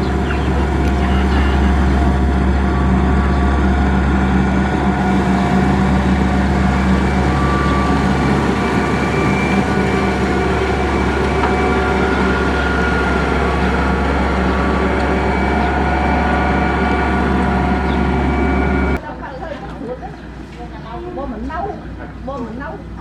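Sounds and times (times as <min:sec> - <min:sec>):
heavy diesel engine droning: 0:00.0 - 0:19.0.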